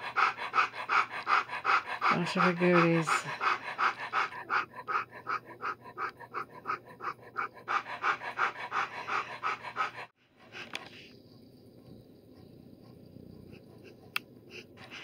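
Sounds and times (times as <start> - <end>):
dog panting rapidly: 0.0 - 11.1, 12.3 - 15.0.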